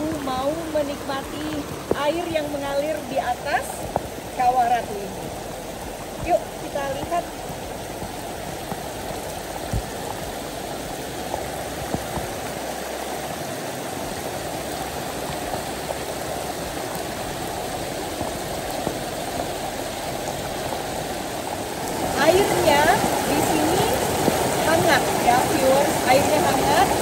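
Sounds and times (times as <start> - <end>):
rain falling: 0.0 - 27.0
stream water rushing: 0.0 - 27.0.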